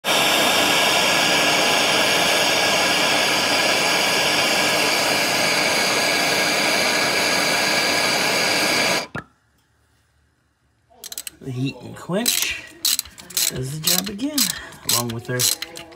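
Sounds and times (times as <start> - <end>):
gas torch flame hissing: 0.0 - 9.2, 12.2 - 15.9.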